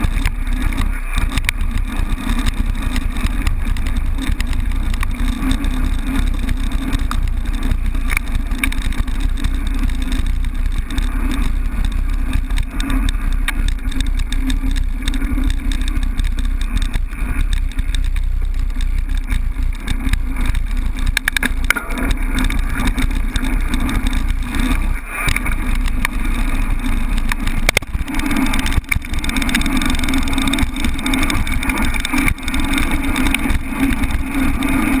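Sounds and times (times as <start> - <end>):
bike rattling over bumps: 0.0 - 35.0
tyres rumbling on gravel: 0.0 - 35.0.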